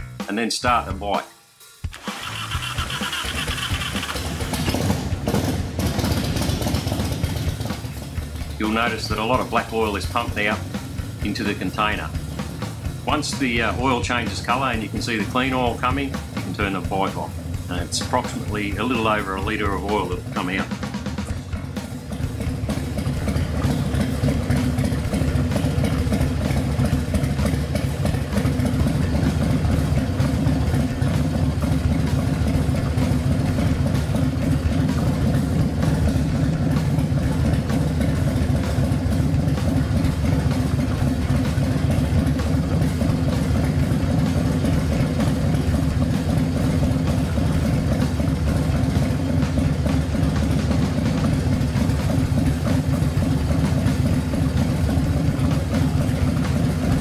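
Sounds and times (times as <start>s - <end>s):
motorcycle engine idling: 1.8s - 57.0s.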